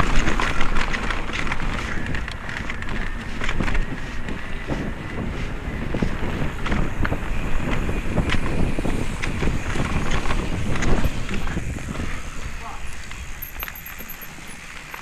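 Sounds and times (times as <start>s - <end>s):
bike clattering over bumps: 0.0s - 15.0s
bike tyres rumbling over dirt: 0.0s - 15.0s
wind on microphone: 0.0s - 15.0s.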